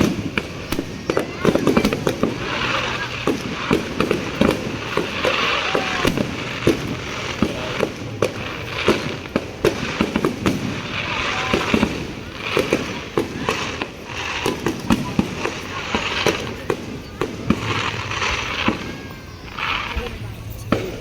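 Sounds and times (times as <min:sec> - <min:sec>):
fireworks bangs and pops: 0:00.0 - 0:21.0.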